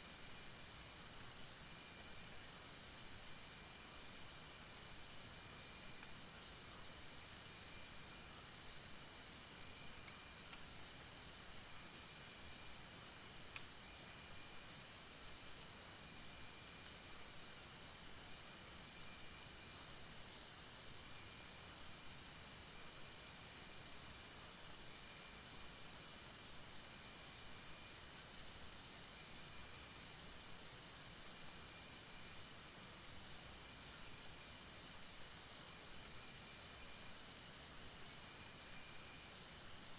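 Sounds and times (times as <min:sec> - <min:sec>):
soft hiss: 0:00.0 - 0:39.9.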